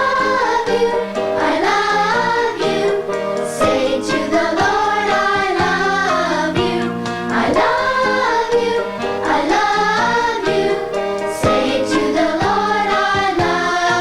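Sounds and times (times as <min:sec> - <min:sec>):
children's choir singing: 0:00.0 - 0:14.0
instrumental accompaniment: 0:00.0 - 0:14.0.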